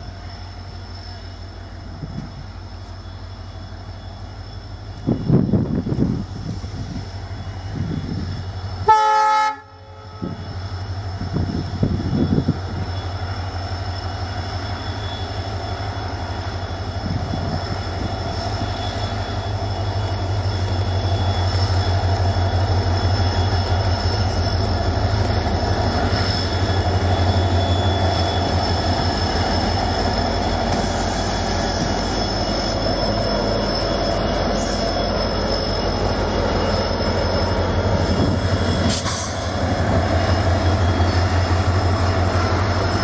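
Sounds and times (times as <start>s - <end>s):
diesel locomotive engine rumble: 0.0s - 43.0s
steady high whine: 0.0s - 43.0s.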